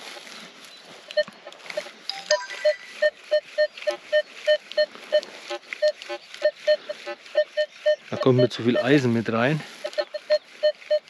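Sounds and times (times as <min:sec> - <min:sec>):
higher detector tones: 0:01.1 - 0:11.0
metal detector beeping: 0:01.1 - 0:11.0.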